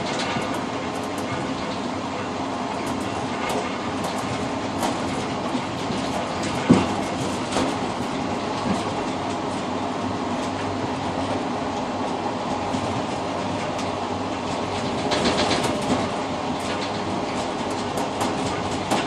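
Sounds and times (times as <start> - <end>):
train rumble and rattle: 0.0 - 19.0.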